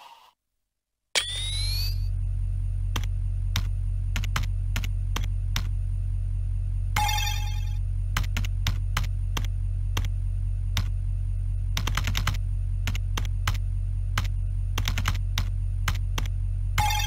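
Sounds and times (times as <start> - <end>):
steady low hum: 1.2 - 17.0.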